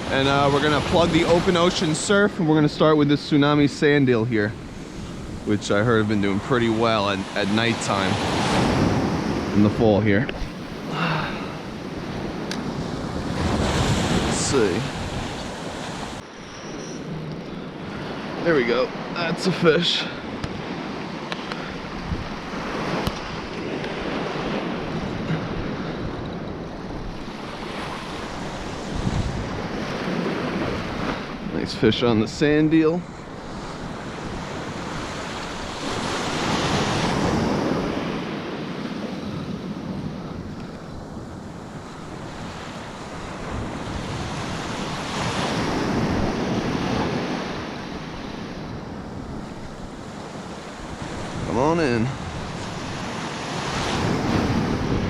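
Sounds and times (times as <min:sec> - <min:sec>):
ocean surf washing on beach: 0:00.0 - 0:55.0
wind buffeting microphone: 0:00.0 - 0:55.0.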